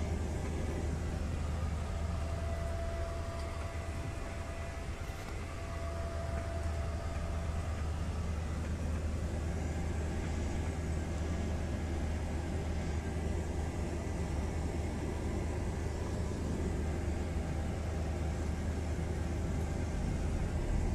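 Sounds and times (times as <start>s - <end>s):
aircraft engine and propeller drone: 0.0s - 20.9s.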